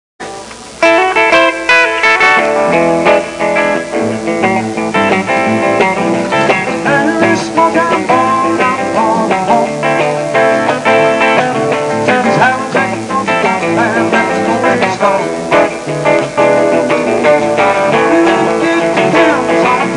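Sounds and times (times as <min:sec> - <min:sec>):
bending guitar notes: 0:00.2 - 0:19.9
live band with guitars: 0:00.2 - 0:19.9.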